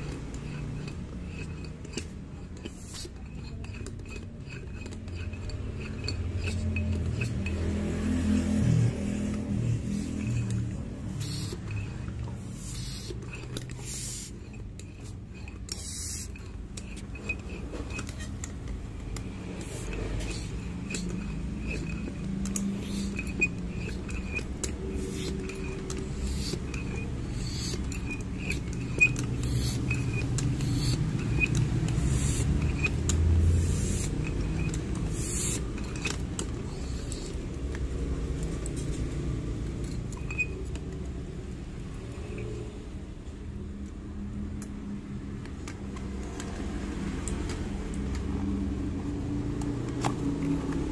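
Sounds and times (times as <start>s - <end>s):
foot pump clicks and rustles: 0.0s - 42.6s, 43.2s - 50.9s.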